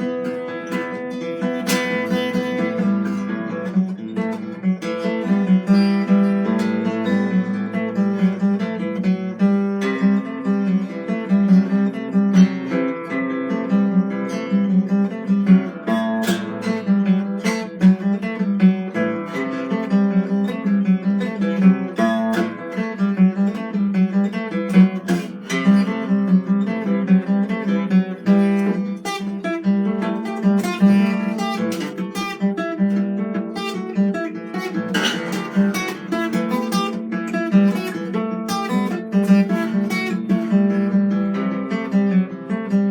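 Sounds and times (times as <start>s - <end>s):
acoustic guitar solo: 0.0s - 42.9s.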